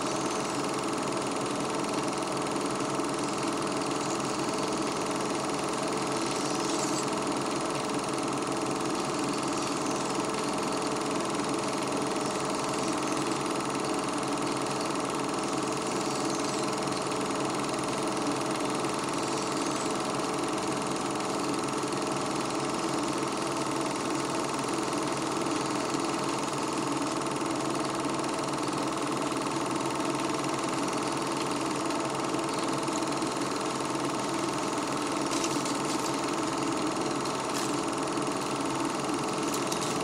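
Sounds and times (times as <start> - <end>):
film projector whirring: 0.0 - 40.0.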